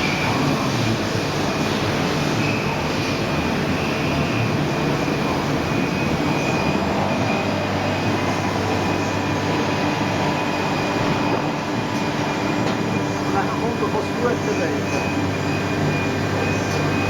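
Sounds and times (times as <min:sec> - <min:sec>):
faint high whine: 0:00.0 - 0:17.0
milling machine running: 0:00.0 - 0:17.0.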